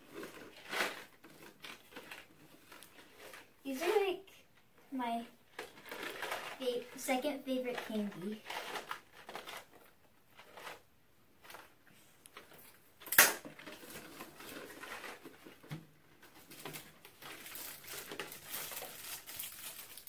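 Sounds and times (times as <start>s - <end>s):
cardboard packaging rustling: 0.0s - 4.2s, 5.4s - 20.0s.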